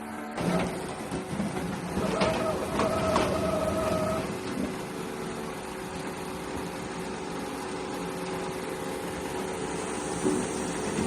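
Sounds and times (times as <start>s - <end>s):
mechanical motor hum: 0.0s - 11.0s.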